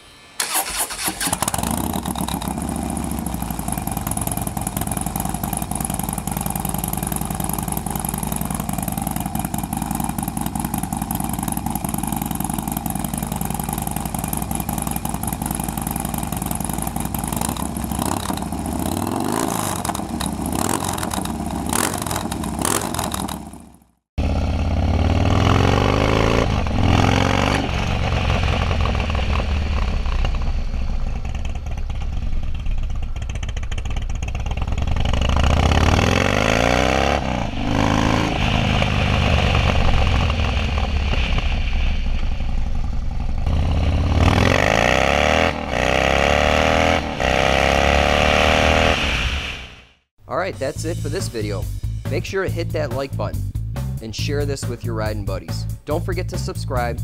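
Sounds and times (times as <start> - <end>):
motorcycle accelerating: 0.4 - 50.1
motorcycle engine revving: 0.4 - 50.1.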